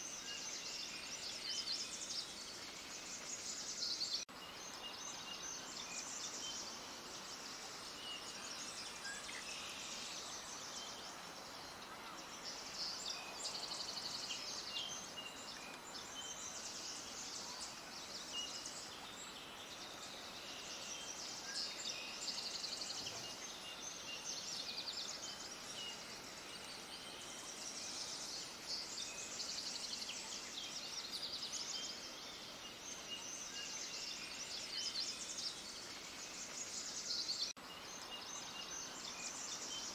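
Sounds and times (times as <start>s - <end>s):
outdoor hiss: 0.0s - 39.9s
small birds chirping: 0.0s - 39.9s.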